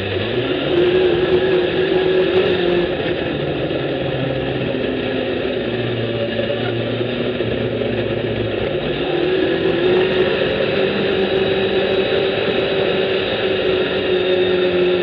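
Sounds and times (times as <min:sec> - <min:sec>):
engine revving: 0:00.0 - 0:15.0
steady rushing noise: 0:00.0 - 0:15.0.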